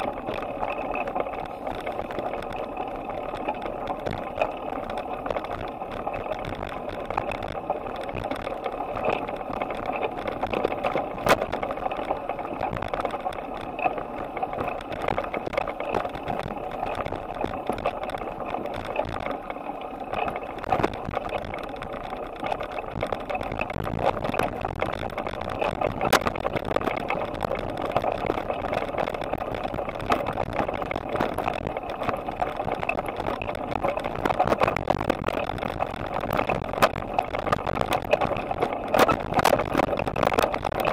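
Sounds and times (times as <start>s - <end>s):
bicycle rattling from road vibration: 0.0s - 40.9s
steady rush of riding noise: 0.0s - 40.9s.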